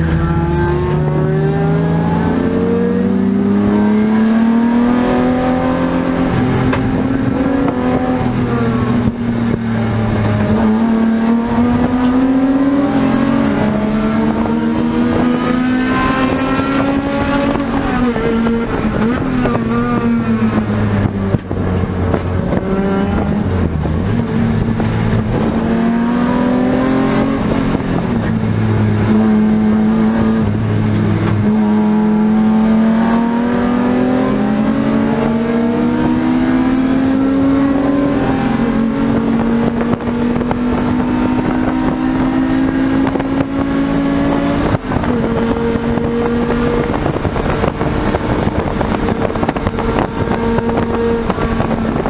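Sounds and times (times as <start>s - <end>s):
race car engine revving: 0.0s - 52.0s
road and tyre noise: 0.0s - 52.0s.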